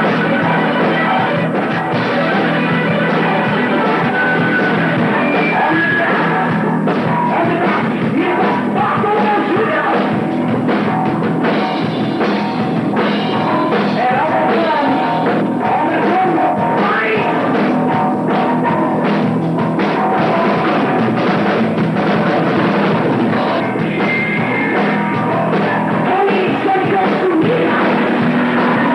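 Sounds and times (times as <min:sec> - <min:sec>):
person singing: 0:00.0 - 0:10.6, 0:13.2 - 0:21.6, 0:23.1 - 0:28.9
heavy metal band playing: 0:00.0 - 0:28.9.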